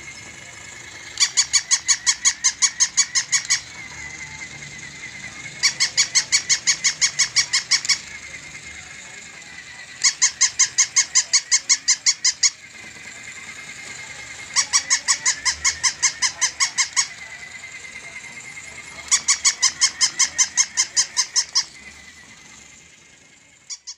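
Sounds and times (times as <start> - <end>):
faint steady whine: 0.0 - 23.9
toy dog electronic yips: 0.0 - 23.9.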